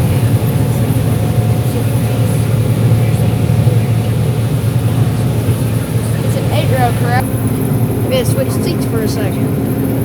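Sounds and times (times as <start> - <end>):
combine harvester engine drone: 0.0 - 10.0.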